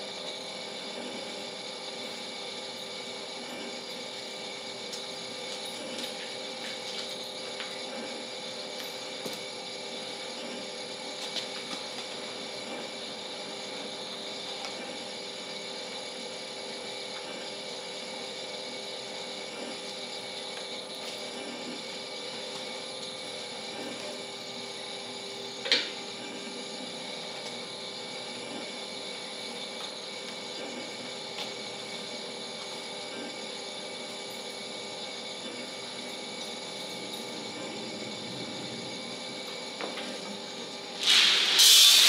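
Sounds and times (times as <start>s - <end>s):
coffee roaster rattle and hum: 0.0s - 42.0s.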